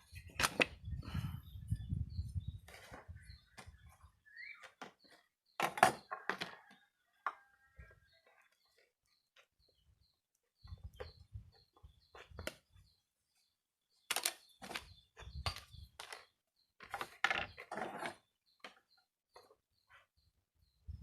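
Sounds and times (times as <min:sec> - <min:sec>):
small bird chirping: 0:00.0 - 0:21.0.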